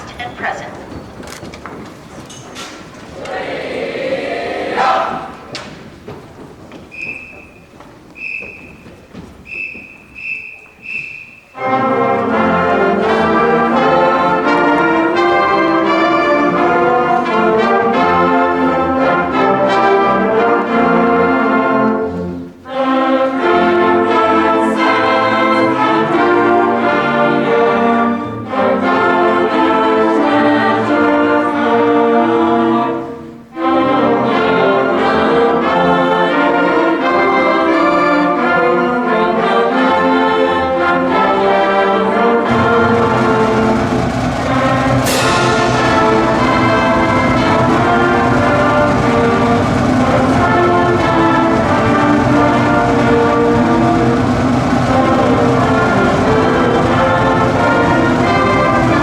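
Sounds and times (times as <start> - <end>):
marching band brass and drums: 0.0 - 59.0.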